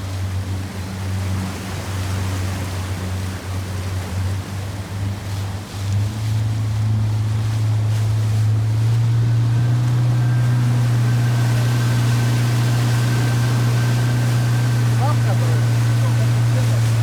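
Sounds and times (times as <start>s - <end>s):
motorboat engine running: 0.0s - 17.0s
water noise: 0.0s - 17.0s
wind: 0.0s - 17.0s.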